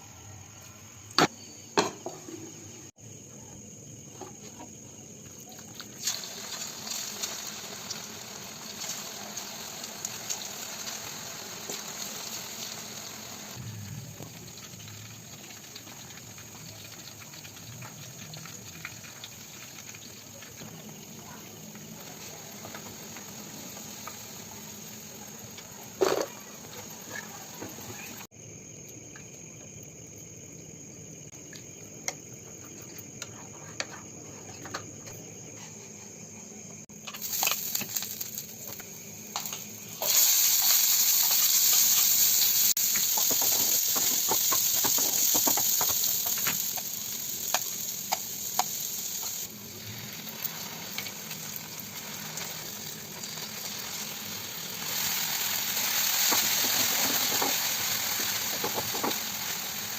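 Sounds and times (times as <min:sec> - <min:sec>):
food sizzling in oil: 0:00.0 - 0:28.4, 0:36.8 - 0:59.9.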